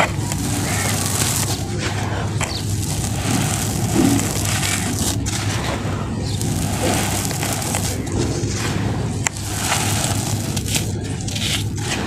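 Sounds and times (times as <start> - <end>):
sand trickling through fingers: 0.0 - 12.0.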